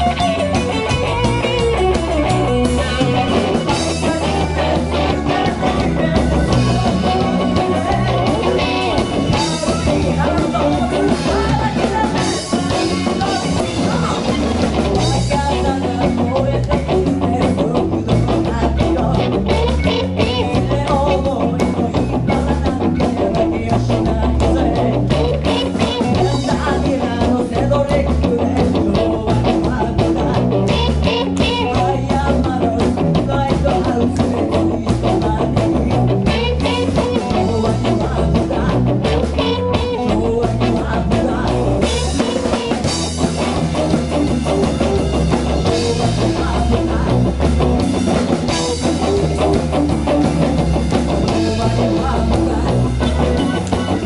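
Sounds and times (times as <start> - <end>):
drum kit: 0.0 - 54.0
electric bass: 0.0 - 54.0
electric guitar: 0.0 - 54.0
woman singing into a microphone: 2.7 - 43.2, 44.3 - 47.4, 51.2 - 54.0.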